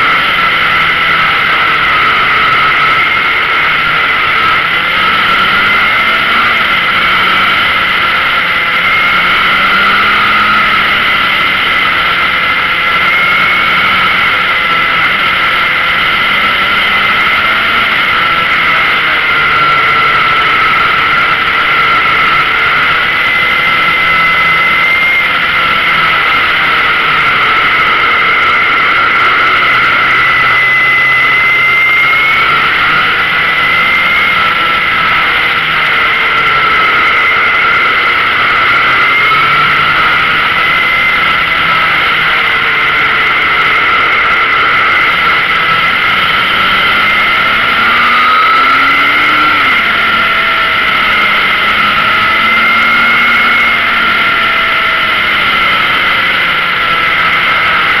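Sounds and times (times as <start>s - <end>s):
motorcycle engine: 0.0s - 58.0s
steady high whine: 0.0s - 58.0s
wind and road noise: 0.0s - 58.0s.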